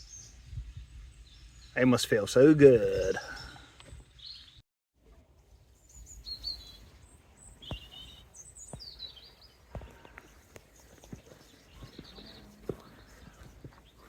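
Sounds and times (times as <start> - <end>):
small birds chirping: 0.0 - 4.6, 5.4 - 14.0.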